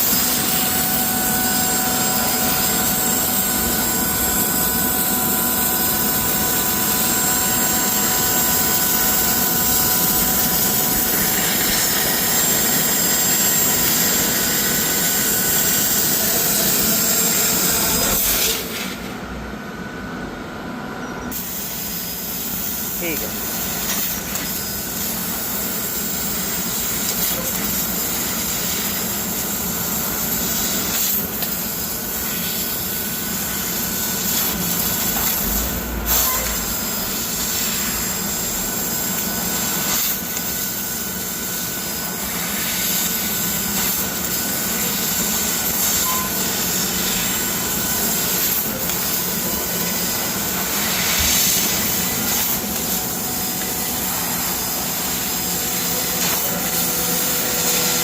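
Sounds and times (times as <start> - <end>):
laser cutting machine hissing: 0.0 - 19.3, 21.2 - 58.0.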